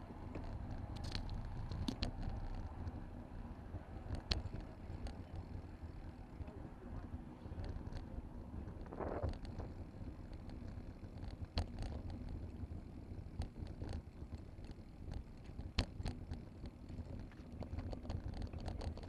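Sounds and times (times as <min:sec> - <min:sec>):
sharp rattles and knocks: 0:00.0 - 0:03.1, 0:04.0 - 0:06.5, 0:07.5 - 0:19.0
bicycle rolling over brick paving: 0:00.0 - 0:19.0
wind rumbling on microphone: 0:00.0 - 0:19.0.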